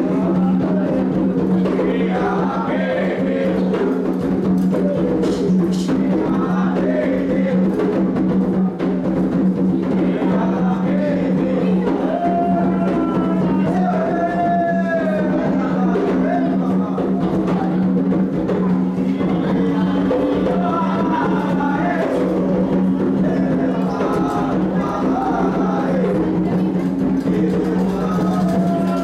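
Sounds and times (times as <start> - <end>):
drums playing: 0.0 - 29.0
voices singing: 0.0 - 29.0.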